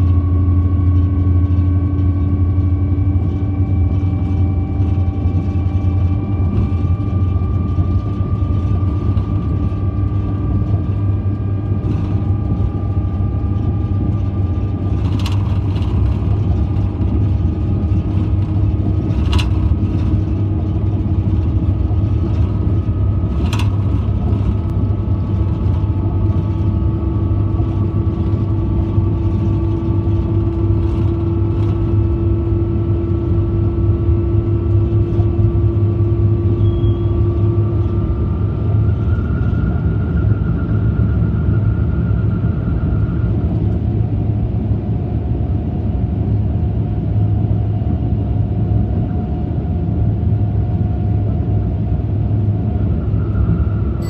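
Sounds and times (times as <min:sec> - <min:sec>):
electric train rumble and whine: 0:00.0 - 0:54.0.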